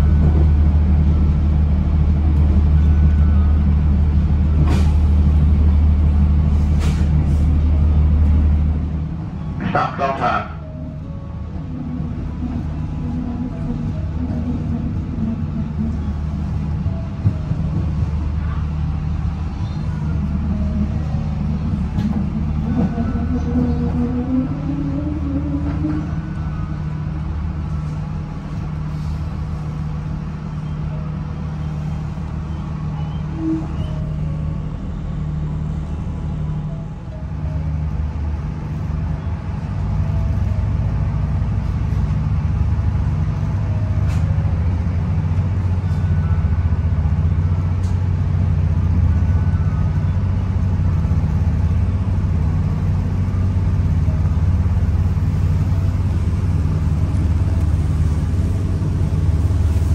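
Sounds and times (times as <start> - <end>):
diesel train engine humming: 0.0 - 59.9.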